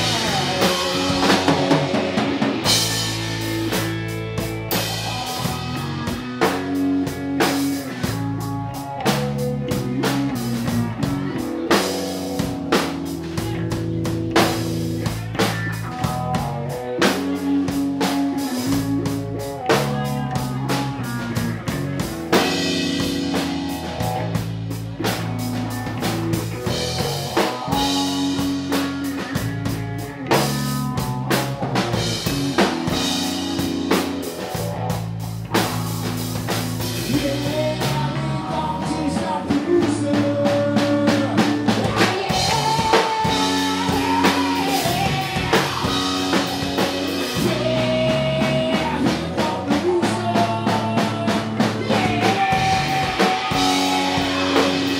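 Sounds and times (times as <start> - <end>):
drum kit beat: 0.0 - 54.9
electric bass: 0.0 - 54.9
electric guitar: 0.0 - 54.9.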